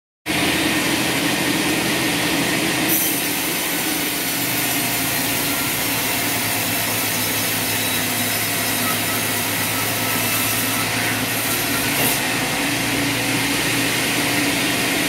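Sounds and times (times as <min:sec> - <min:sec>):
band saw cutting log: 0:00.3 - 0:15.0.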